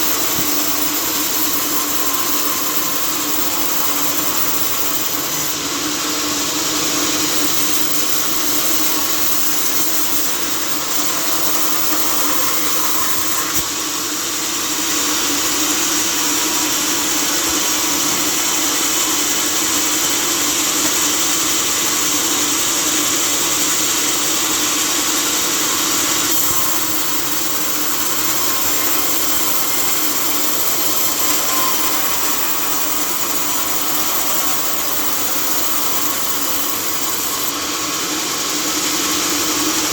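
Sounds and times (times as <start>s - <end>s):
sawmill saw hissing: 0.0s - 39.9s.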